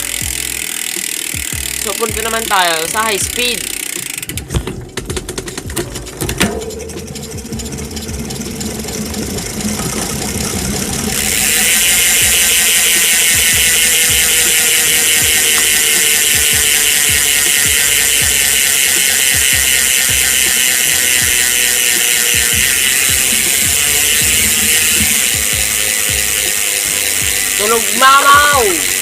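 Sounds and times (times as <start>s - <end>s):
bike hub ratcheting buzz: 0.0s - 29.0s
drivetrain noise: 0.0s - 29.0s.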